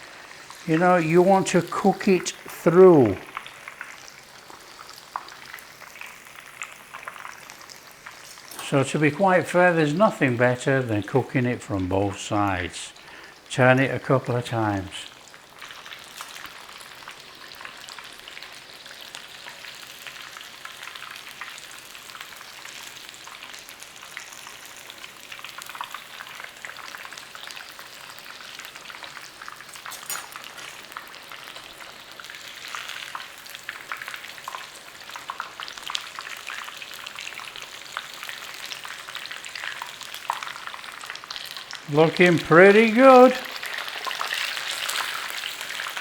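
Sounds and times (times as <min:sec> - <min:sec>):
chicken frying in hot oil: 0:00.0 - 0:46.0.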